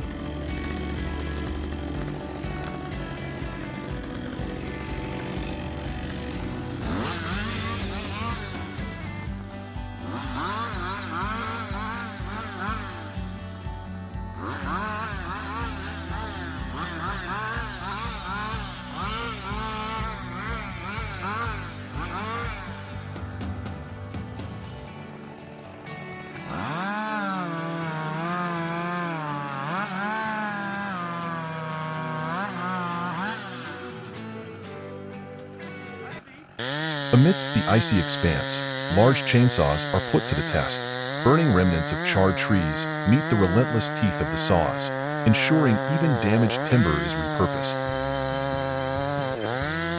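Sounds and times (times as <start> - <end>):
chainsaw running: 0.0 - 49.9.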